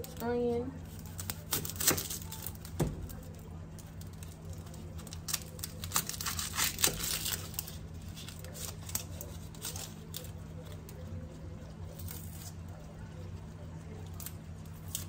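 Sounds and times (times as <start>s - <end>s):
low steady hum: 0.0s - 15.0s
onion skin crackling and tearing: 0.0s - 15.0s.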